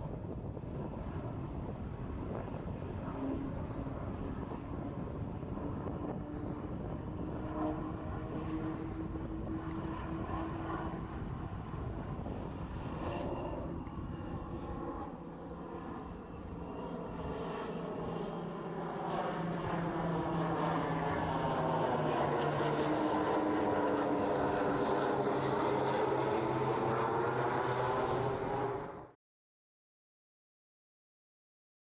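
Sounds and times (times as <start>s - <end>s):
propeller aircraft passing: 0.0s - 29.2s.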